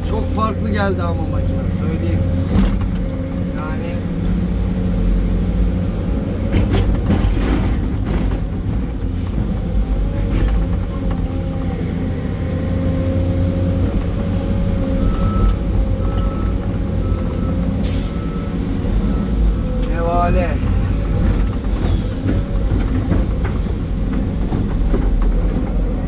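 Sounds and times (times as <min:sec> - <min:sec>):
excavator diesel engine running: 0:00.0 - 0:26.0
hydraulics working: 0:00.0 - 0:26.0.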